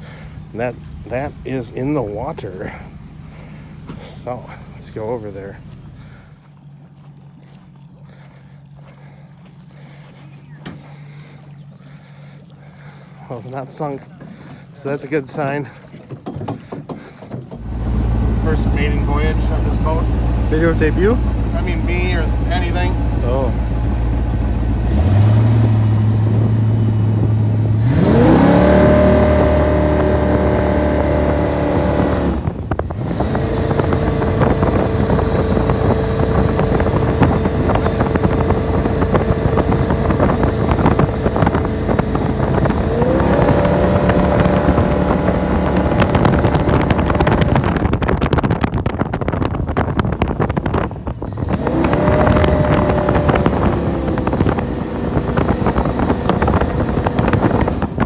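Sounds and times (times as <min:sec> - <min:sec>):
boat engine revving: 0:00.0 - 0:58.0.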